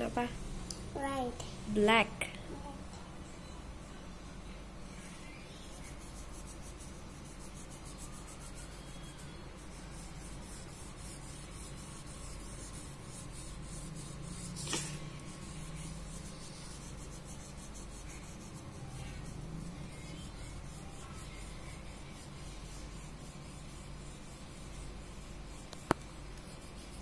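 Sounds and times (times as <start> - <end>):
crayon scribbling on paper: 5.1 - 27.0.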